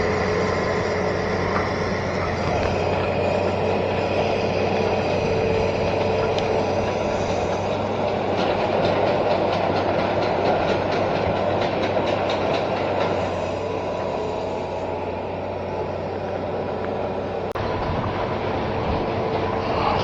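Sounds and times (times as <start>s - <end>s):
excavator engine hum: 0.0s - 20.0s
track chains clacking: 0.0s - 20.0s.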